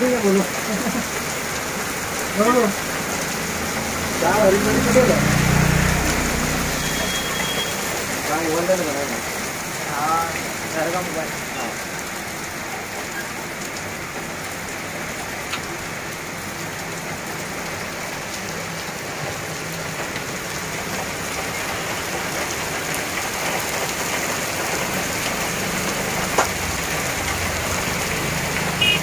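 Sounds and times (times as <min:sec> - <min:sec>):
heavy rain on water: 0:00.0 - 0:29.0.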